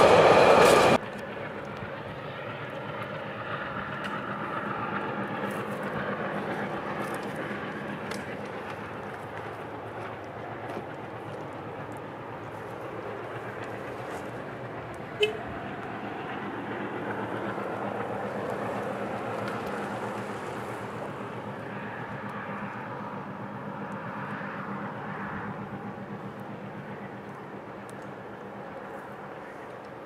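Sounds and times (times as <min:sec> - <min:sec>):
distant freight train rumbling: 0:00.0 - 0:30.0.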